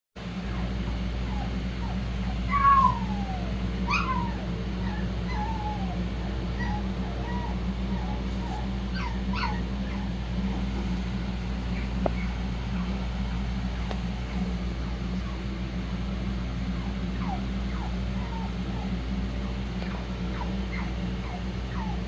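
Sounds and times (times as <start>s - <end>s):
steady low hum: 0.2s - 22.0s
puppies squeaking and whimpering: 0.4s - 15.5s, 16.6s - 22.0s.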